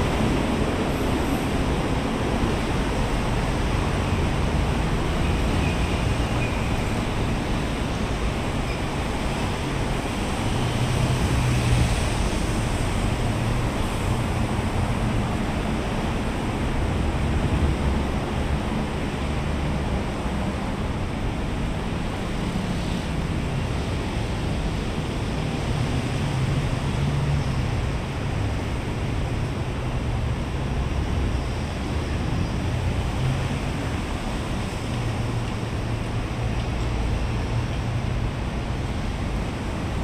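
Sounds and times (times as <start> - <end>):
road traffic roar: 0.0 - 40.0.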